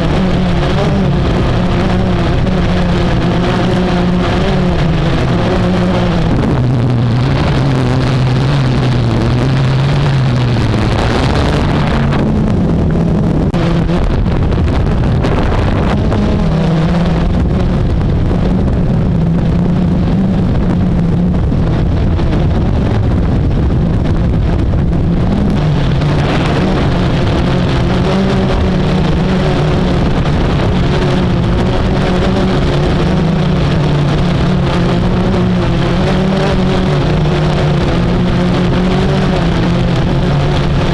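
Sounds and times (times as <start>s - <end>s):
quadcopter propellers droning: 0.0s - 40.9s
rushing wind noise: 0.0s - 40.9s.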